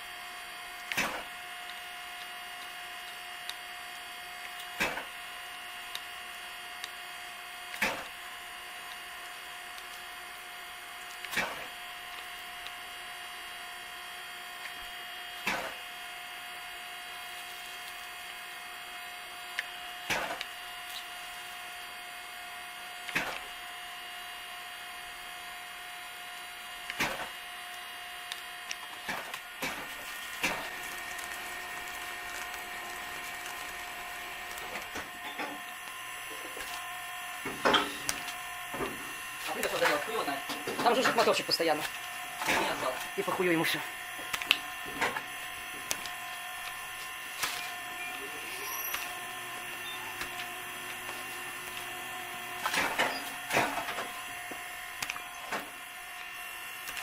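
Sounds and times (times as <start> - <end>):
small electric motor whirring: 0.0 - 57.0.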